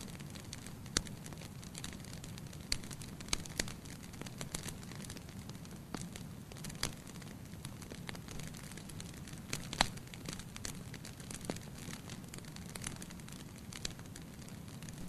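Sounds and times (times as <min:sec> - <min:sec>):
fire popping and crackling: 0:00.0 - 0:15.0
fire rumbling: 0:00.0 - 0:15.0.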